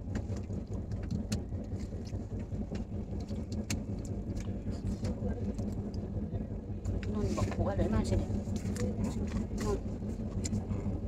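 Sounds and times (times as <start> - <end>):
train rumble inside coach: 0.0 - 11.0.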